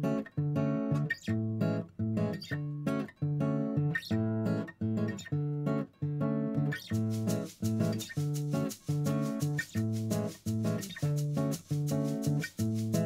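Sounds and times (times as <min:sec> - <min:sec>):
acoustic guitar playing bossa nova: 0:00.0 - 0:13.0.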